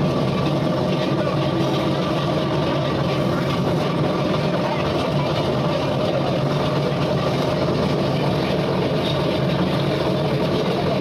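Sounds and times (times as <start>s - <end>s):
motor running steadily: 0.0s - 11.0s.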